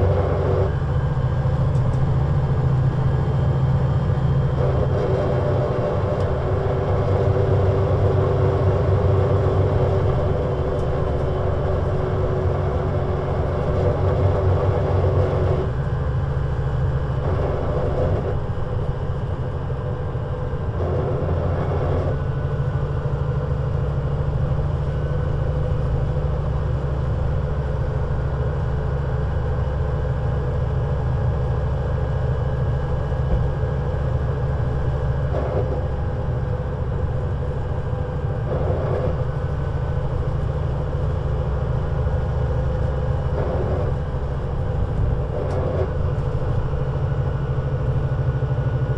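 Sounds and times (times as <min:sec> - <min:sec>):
bus engine running: 0:00.0 - 0:48.9.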